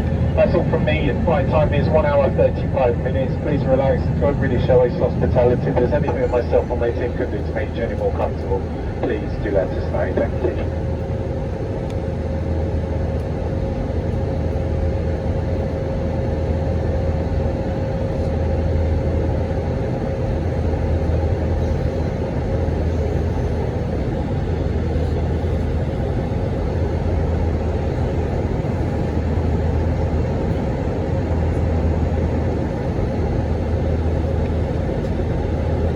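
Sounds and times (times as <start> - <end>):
airplane cabin drone: 0.0 - 35.9
steady hum: 0.0 - 35.9.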